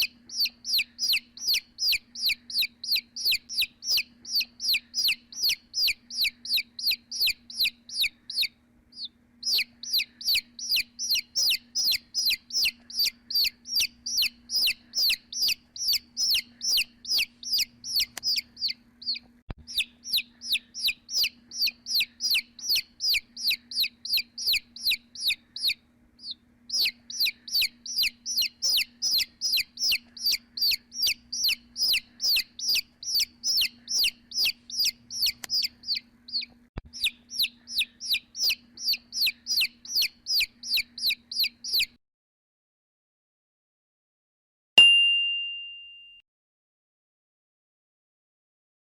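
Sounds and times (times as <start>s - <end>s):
baby chick peeping: 0.0s - 42.0s.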